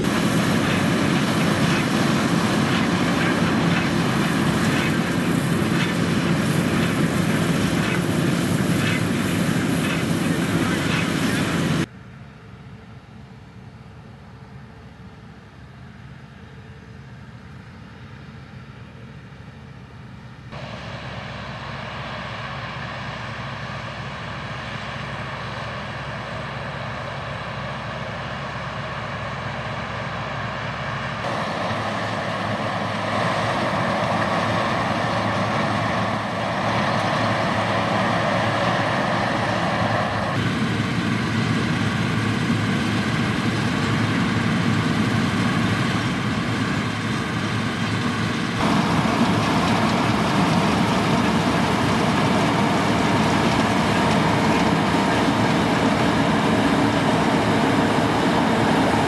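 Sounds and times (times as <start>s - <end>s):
combine harvester engine and threshing: 0.0s - 59.0s.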